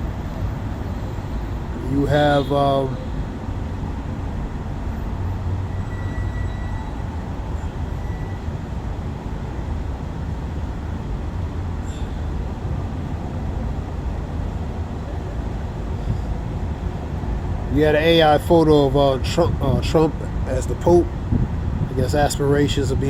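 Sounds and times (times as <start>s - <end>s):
low rumble of vehicle noise: 0.0s - 23.0s.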